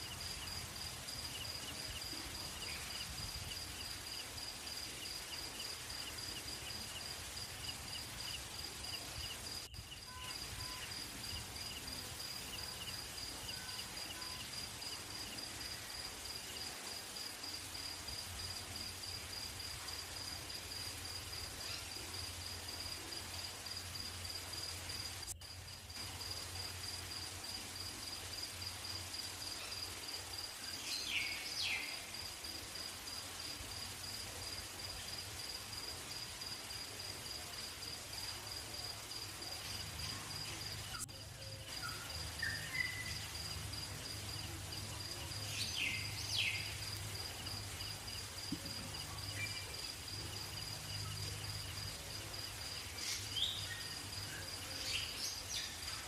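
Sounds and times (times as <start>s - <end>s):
insects trilling: 0.0s - 22.9s, 23.7s - 56.0s.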